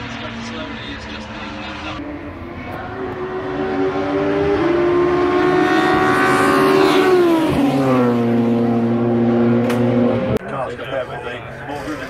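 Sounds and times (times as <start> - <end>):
race car engine passing by: 0.0 - 10.4.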